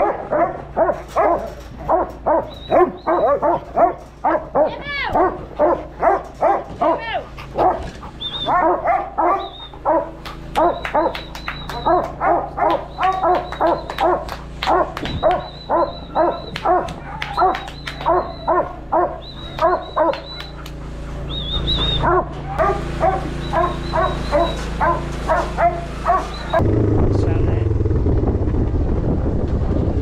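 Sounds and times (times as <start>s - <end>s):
dog barking up close: 0.0s - 26.6s.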